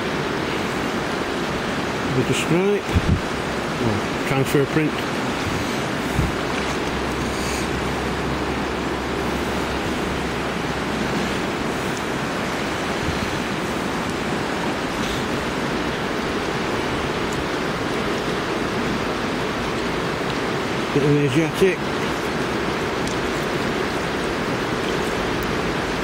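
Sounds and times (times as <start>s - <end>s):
river water rushing over gravel: 0.0s - 26.0s.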